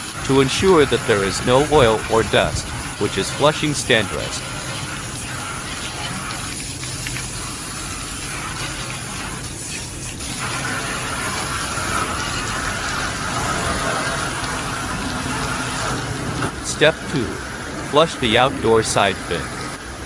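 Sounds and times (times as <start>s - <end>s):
water spraying onto metal fins: 0.0s - 20.0s.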